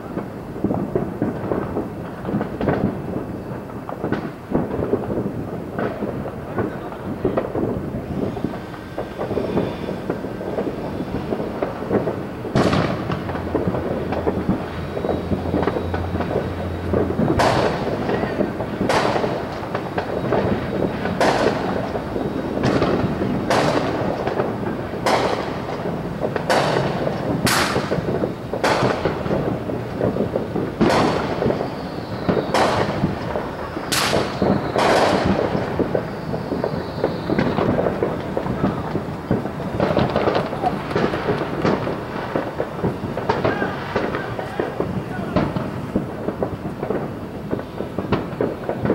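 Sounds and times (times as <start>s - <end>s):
distant fireworks rumble and crackle: 0.0s - 48.9s
sharp firework bangs: 0.0s - 48.9s.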